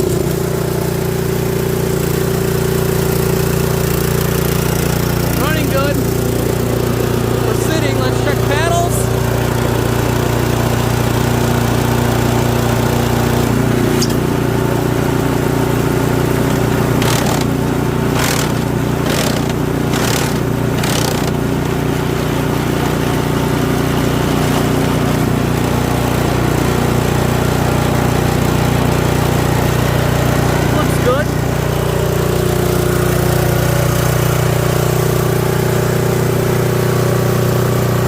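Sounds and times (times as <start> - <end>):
snowblower engine running: 0.0 - 38.0.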